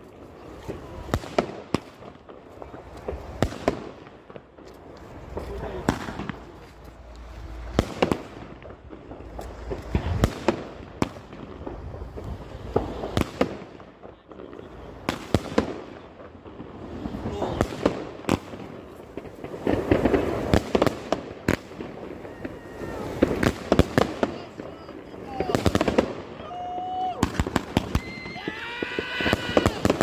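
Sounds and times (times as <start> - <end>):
firework bangs: 0.0 - 30.0
firework crackling: 0.0 - 30.0.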